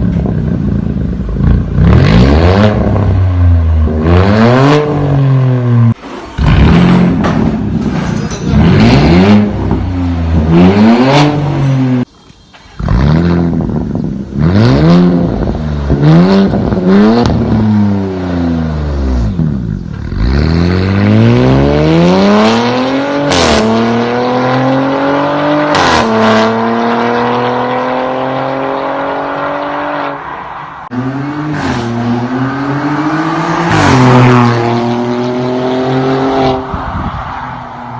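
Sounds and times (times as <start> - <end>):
car engine revving: 0.2 - 36.7.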